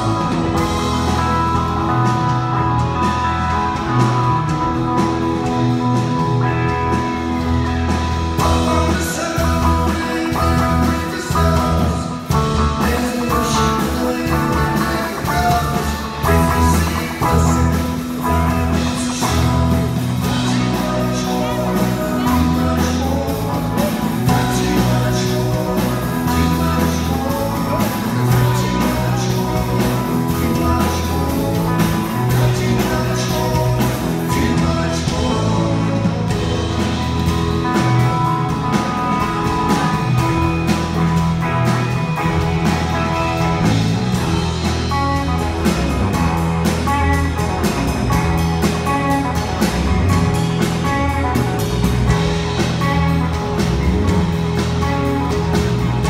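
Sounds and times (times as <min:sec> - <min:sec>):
bass line: 0:00.0 - 0:56.0
live rock band: 0:00.0 - 0:56.0.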